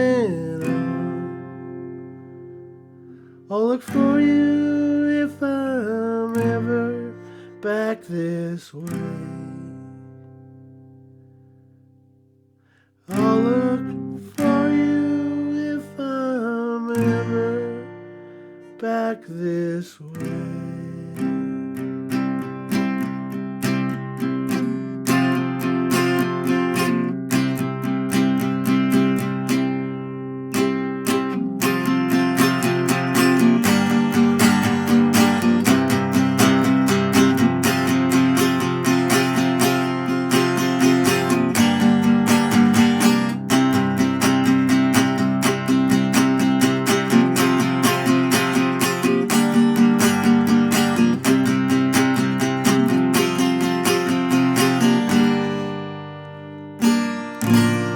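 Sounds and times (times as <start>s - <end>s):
acoustic guitar strumming: 0.0s - 57.9s.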